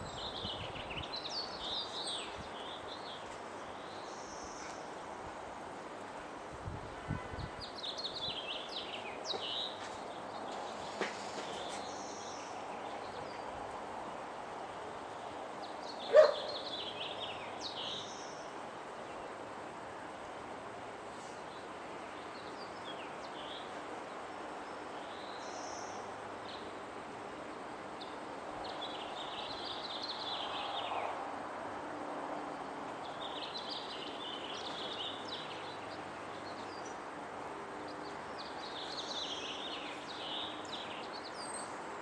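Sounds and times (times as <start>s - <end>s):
songbirds chirping: 0.0s - 6.5s, 7.4s - 42.0s
outdoor background noise: 0.0s - 42.0s.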